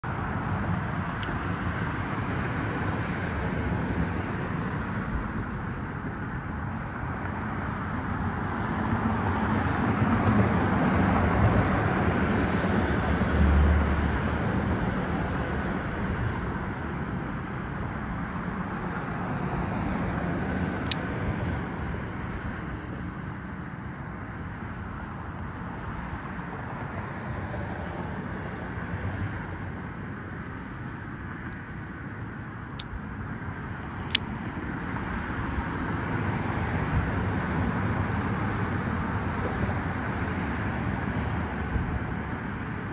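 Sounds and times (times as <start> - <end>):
road traffic passing: 0.0 - 42.9.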